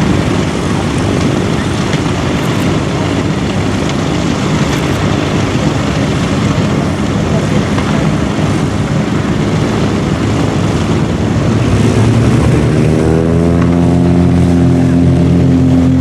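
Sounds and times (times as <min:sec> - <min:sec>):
piston aircraft engines running: 0:00.0 - 0:16.0.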